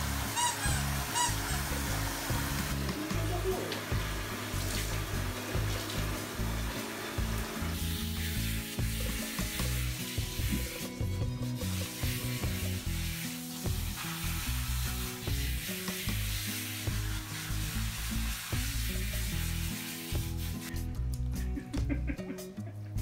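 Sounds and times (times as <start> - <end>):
shower water spraying: 0.0 - 20.9
soft background music: 0.0 - 23.0.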